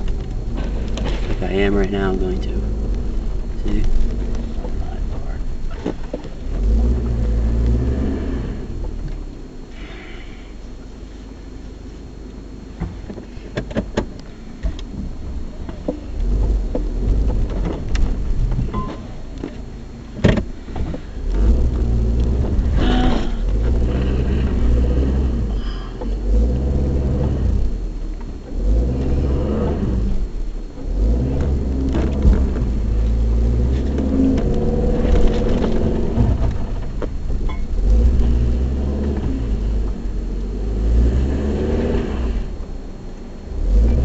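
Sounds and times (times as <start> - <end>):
engine and tyres rumbling: 0.0 - 44.0.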